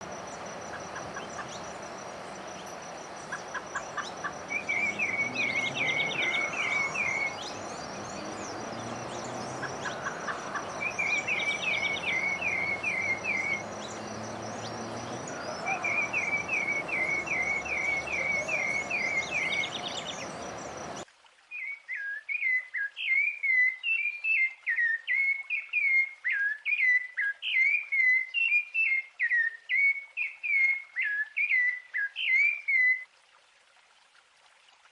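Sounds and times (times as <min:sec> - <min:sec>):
faint background bird calls: 0:00.0 - 0:33.1
rapid warbling bird song: 0:00.0 - 0:33.1.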